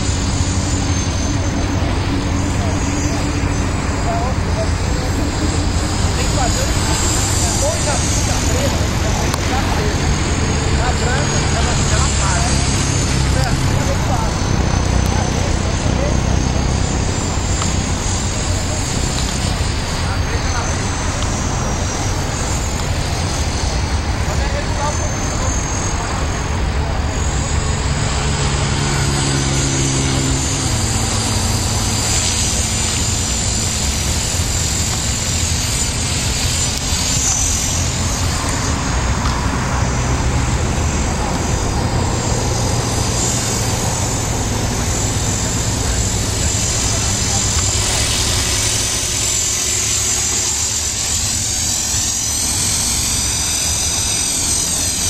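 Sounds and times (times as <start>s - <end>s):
model helicopter motor whine: 0.0s - 55.0s.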